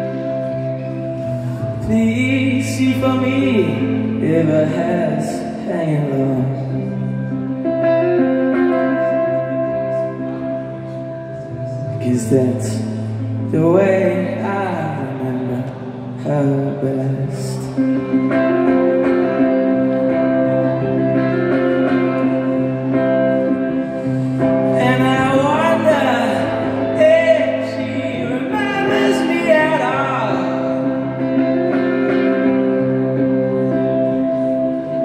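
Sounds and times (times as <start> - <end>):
electric guitar and keyboard chords: 0.0 - 35.0
person singing long notes: 1.3 - 35.0.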